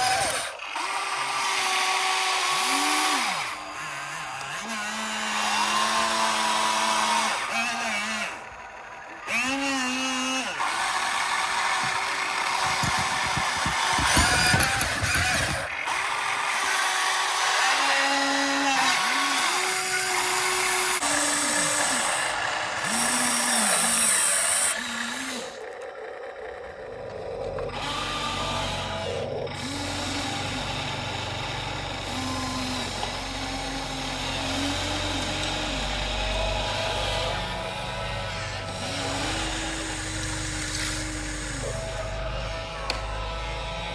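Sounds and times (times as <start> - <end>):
electric motors whining: 0.0 - 43.9.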